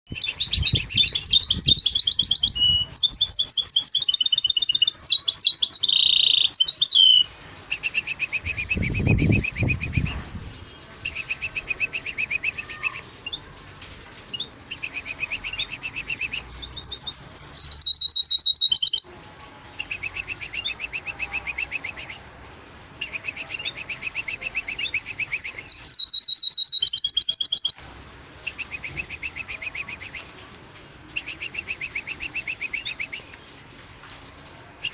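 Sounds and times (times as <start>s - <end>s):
bird singing trilled phrases: 0.1s - 19.1s, 19.7s - 22.3s, 22.9s - 27.8s, 28.4s - 30.3s, 31.1s - 33.6s.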